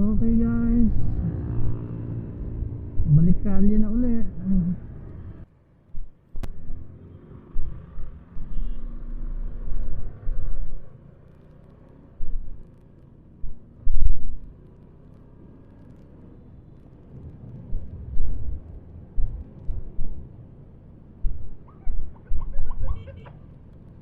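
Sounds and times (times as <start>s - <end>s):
wind rumble on microphone: 0.0s - 6.9s, 7.5s - 11.4s, 12.1s - 12.8s, 13.4s - 14.6s, 15.8s - 24.0s
faint motorcycle engine: 0.0s - 24.0s.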